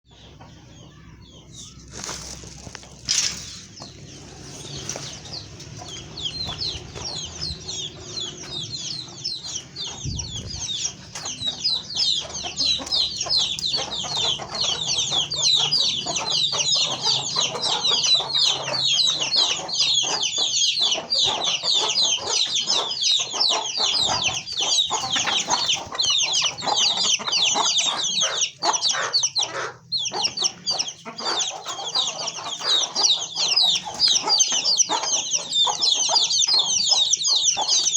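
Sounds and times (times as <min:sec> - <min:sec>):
chickens calling: 0:00.1 - 0:37.9.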